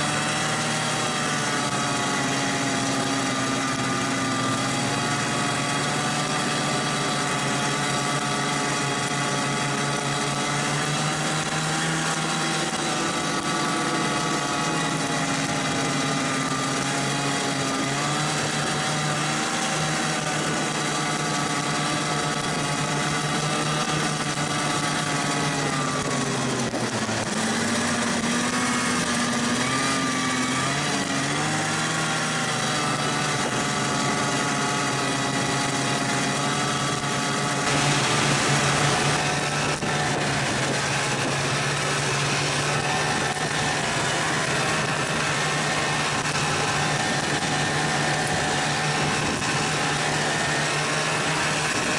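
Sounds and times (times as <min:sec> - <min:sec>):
snowmobile engine running: 0:00.0 - 0:51.9.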